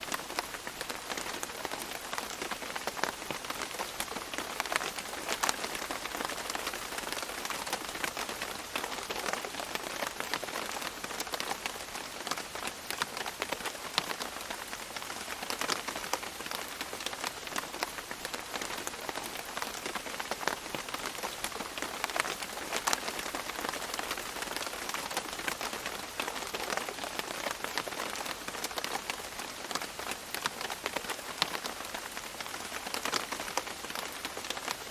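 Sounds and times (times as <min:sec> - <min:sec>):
rain falling on leaves: 0:00.0 - 0:34.9.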